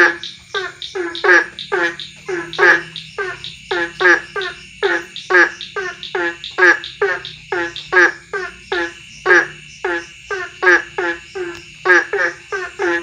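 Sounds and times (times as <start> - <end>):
frogs croaking: 0.0 - 13.0.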